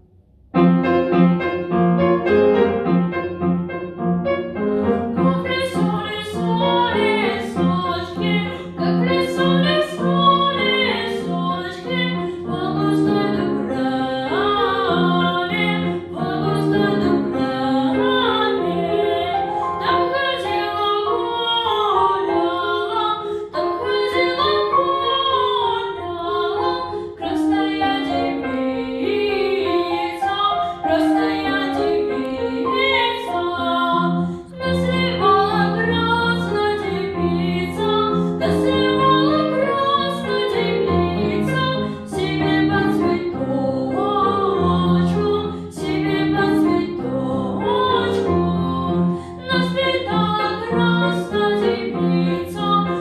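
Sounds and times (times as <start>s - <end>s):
piano accompaniment: 0.0s - 53.0s
woman singing operatically: 5.2s - 53.0s.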